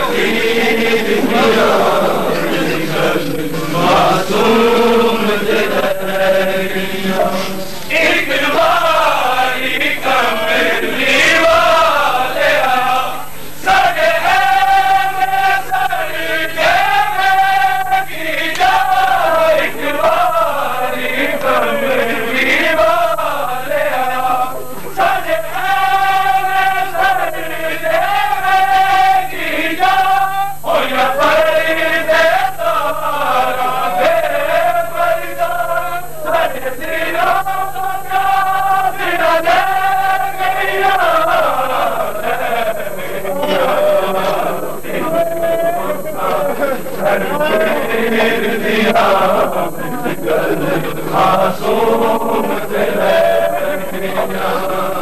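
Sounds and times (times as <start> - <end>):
men chanting a lament: 0.0 - 55.0.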